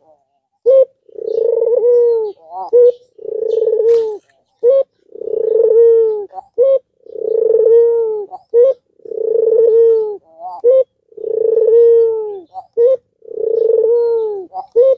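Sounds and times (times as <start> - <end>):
dove cooing: 0.0 - 14.9.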